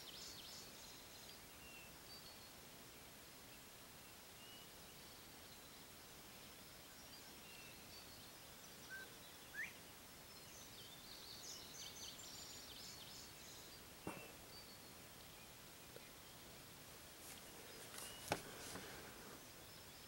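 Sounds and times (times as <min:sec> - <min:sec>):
distant birdsong: 0:00.0 - 0:20.0.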